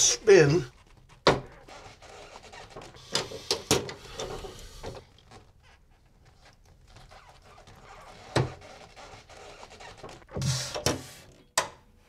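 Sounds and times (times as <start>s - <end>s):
faint rubbing: 0.0s - 11.2s.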